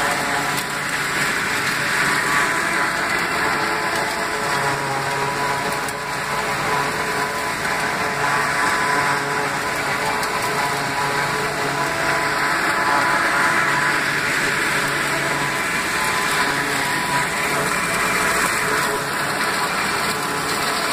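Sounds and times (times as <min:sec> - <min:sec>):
tractor engine and cutter whirring: 0:00.0 - 0:20.9.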